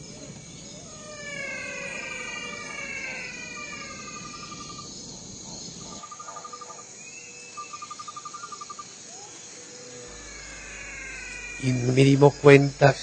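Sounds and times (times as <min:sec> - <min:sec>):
insects trilling in pulsed bursts: 0:00.0 - 0:13.0
steady background hiss: 0:00.0 - 0:13.0
falling whistled calls: 0:00.6 - 0:13.0.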